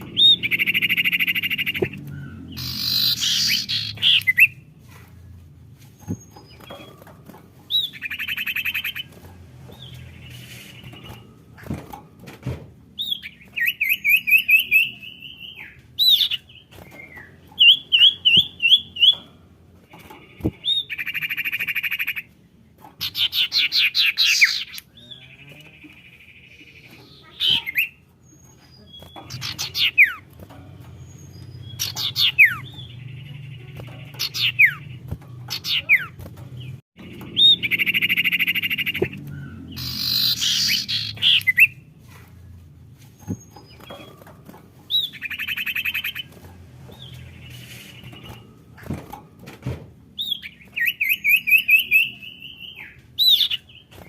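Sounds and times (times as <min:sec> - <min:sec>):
bird chirping trills and whistles: 0:00.0 - 0:05.1, 0:07.7 - 0:11.8, 0:13.0 - 0:19.3, 0:20.0 - 0:22.3, 0:23.0 - 0:30.3, 0:30.9 - 0:42.3, 0:43.0 - 0:49.0, 0:50.2 - 0:54.0.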